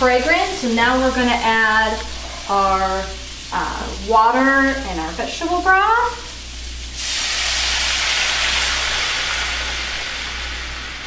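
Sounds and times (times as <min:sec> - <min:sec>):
broth hissing in hot pan: 0:00.0 - 0:11.0.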